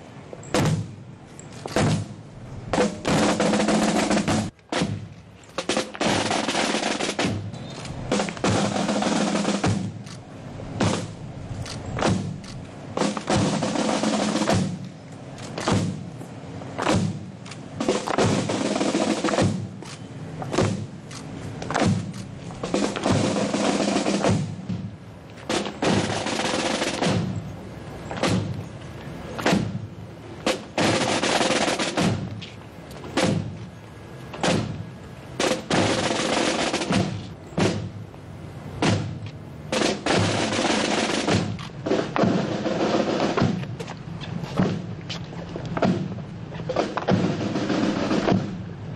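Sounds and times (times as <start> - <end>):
snare drum strokes and rolls: 0.6 - 1.0, 1.7 - 10.1, 10.7 - 11.2, 12.0 - 27.4, 28.1 - 28.6, 29.4 - 32.5, 33.1 - 33.7, 34.3 - 38.0, 38.8 - 48.9.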